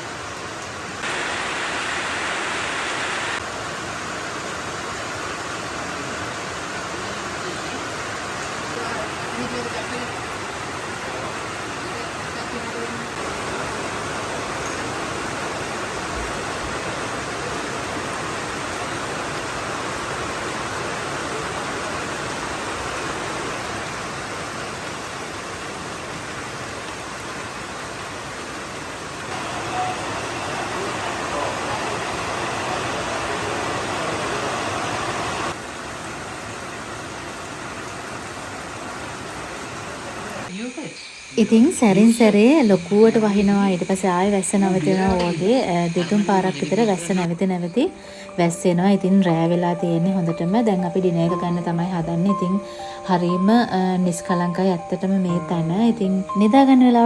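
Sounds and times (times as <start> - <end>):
heavy rain pouring: 0.0 - 48.4.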